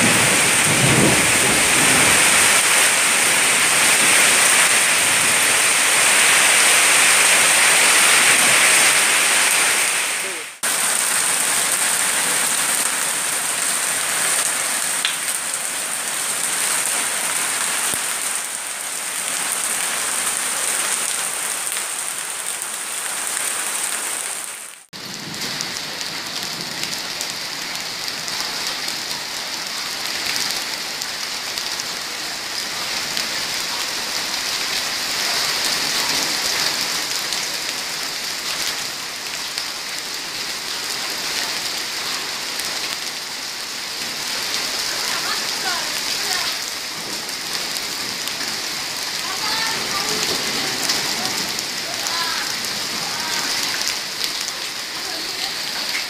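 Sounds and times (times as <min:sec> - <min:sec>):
heavy rain and hail on pavement: 0:00.0 - 0:56.0.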